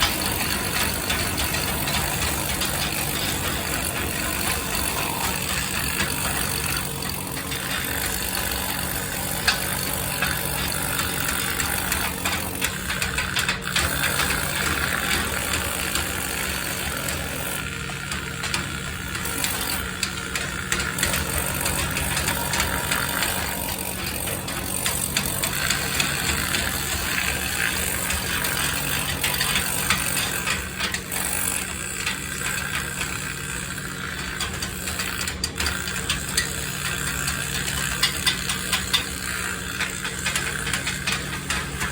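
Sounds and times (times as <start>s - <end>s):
clicks and rattles: 0.0s - 41.9s.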